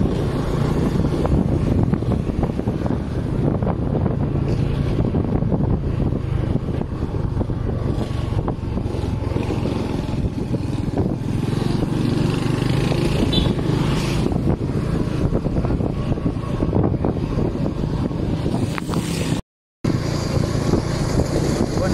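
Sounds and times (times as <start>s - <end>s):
motorcycle engine running: 0.0s - 19.3s
wind noise on microphone: 0.0s - 21.9s.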